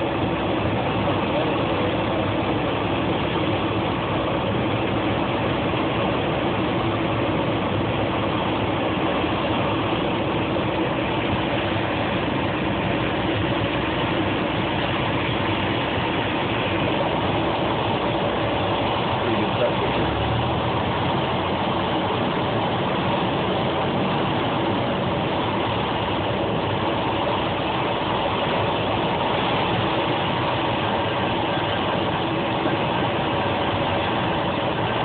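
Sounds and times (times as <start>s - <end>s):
light aircraft engine drone: 0.0s - 35.0s.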